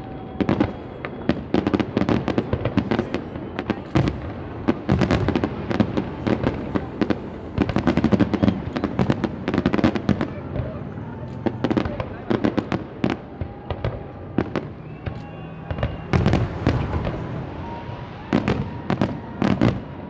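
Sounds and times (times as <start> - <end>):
fireworks bangs: 0.0 - 20.0
rumble of fireworks bursts: 0.0 - 20.0.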